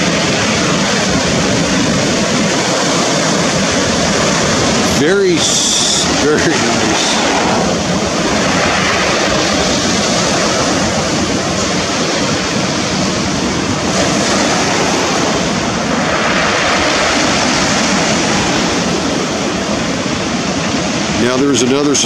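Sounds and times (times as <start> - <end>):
ocean surf breaking over rocks: 0.0 - 22.0.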